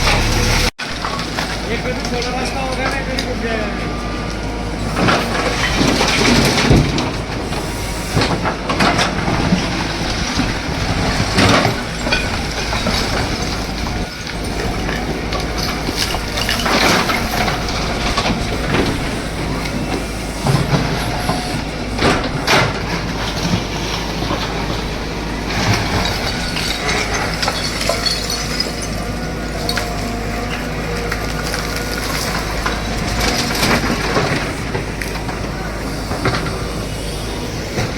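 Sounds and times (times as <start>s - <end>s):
heavy machine engine running: 0.0s - 37.9s
house demolition crunches and knocks: 0.0s - 37.9s.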